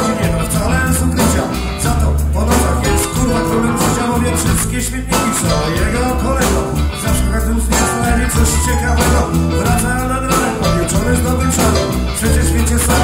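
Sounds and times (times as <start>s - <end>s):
bass guitar: 0.0s - 13.0s
drums beating: 0.0s - 13.0s
electric guitars: 0.0s - 13.0s
man singing: 0.0s - 13.0s.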